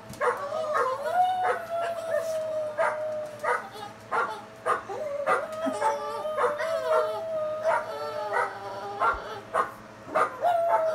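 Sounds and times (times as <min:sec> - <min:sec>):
dogs barking: 0:00.2 - 0:02.0, 0:02.8 - 0:10.9
dog howling: 0:00.2 - 0:10.9.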